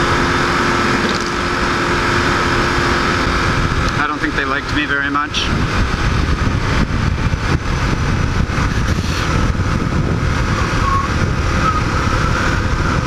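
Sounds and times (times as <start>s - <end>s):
motorcycle engine: 0.0s - 13.0s
wind rush on microphone: 0.0s - 13.0s.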